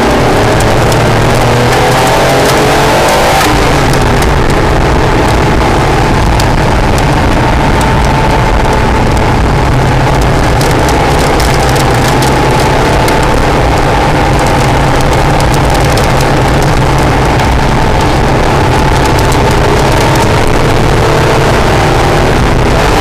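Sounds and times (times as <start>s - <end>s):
car engine running hard: 0.0s - 23.0s
wind and road noise: 0.0s - 23.0s
sharp clicks: 0.4s - 21.0s.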